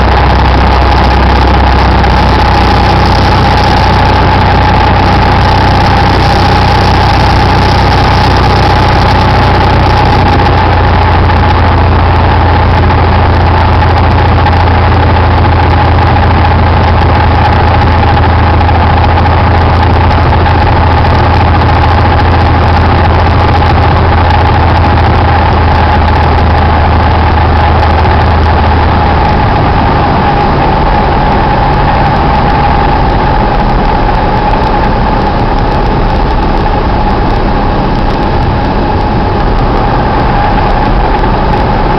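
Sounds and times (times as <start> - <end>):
propeller plane engine drone: 0.0 - 41.9.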